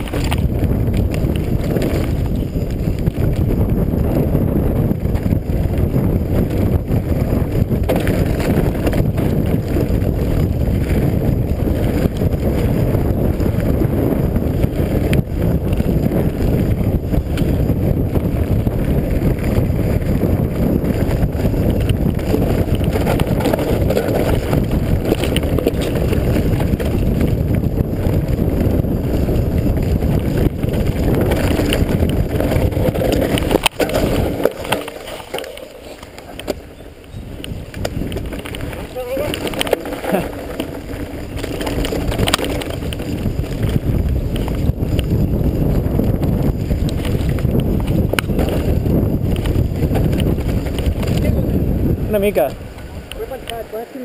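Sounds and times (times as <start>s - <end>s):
mountain bike rattling on stony trail: 0.0s - 54.0s
wind rushing over microphone: 0.0s - 54.0s.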